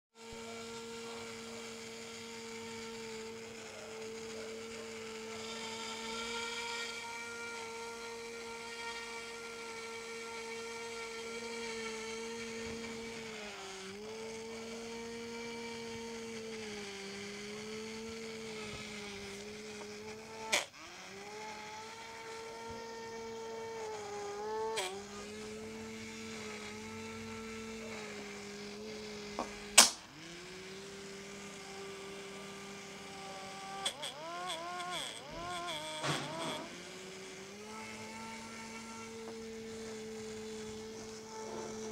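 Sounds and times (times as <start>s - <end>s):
small motor whining: 0.2s - 41.9s.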